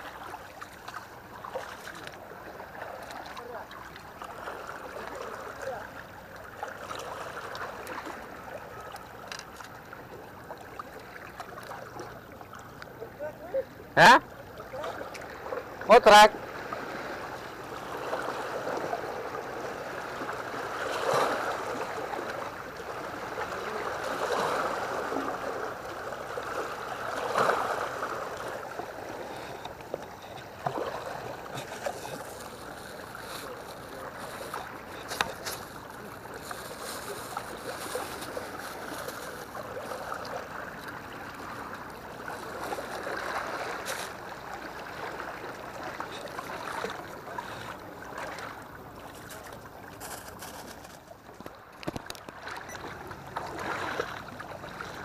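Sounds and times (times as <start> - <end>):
water splashing against seawall: 0.0 - 55.0.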